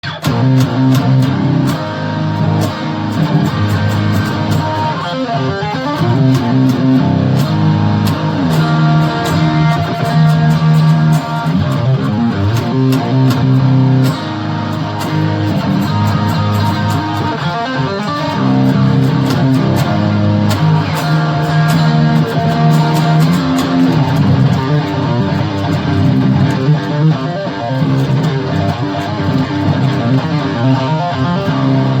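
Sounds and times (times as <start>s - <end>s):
guitar chords: 0.0s - 32.0s
ticking beat: 0.0s - 32.0s.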